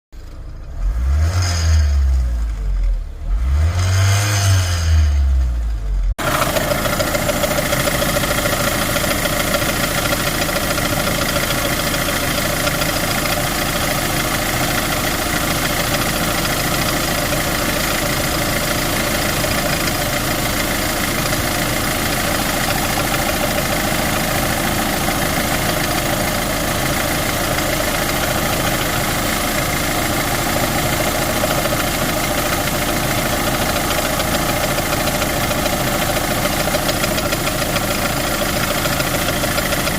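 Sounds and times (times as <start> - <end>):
diesel engine running: 1.9 - 39.9.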